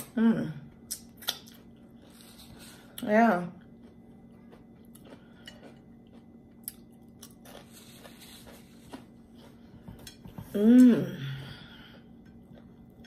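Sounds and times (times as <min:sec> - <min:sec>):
person chewing: 0:00.8 - 0:03.0, 0:03.6 - 0:13.0.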